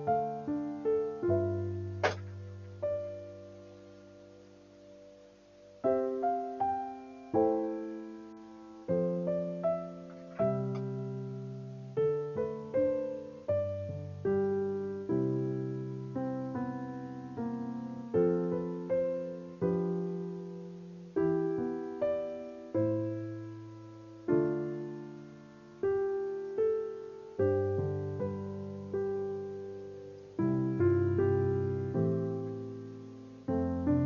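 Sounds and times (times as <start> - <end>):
gentle piano chords: 0.0 - 34.0.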